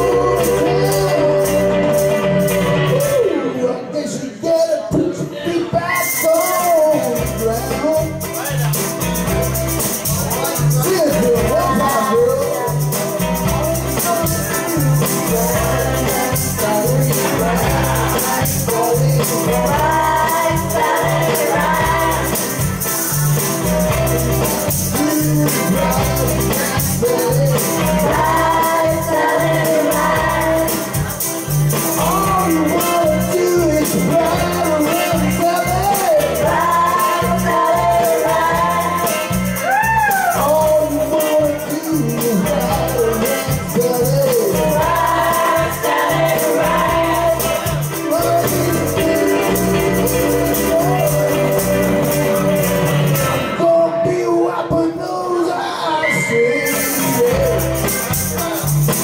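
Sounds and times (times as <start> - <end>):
man singing into a microphone: 0.0 - 8.3, 10.3 - 22.3, 23.1 - 31.1, 31.8 - 59.0
rhythm and blues backing music: 0.0 - 59.0.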